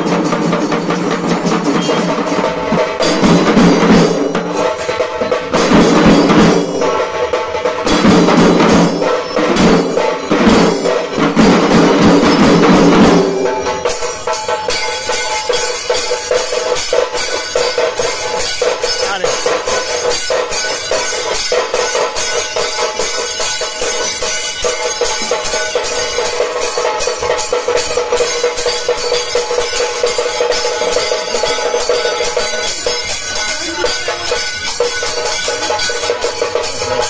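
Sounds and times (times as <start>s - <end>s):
drum troupe playing fast rhythm: 0.0s - 37.0s.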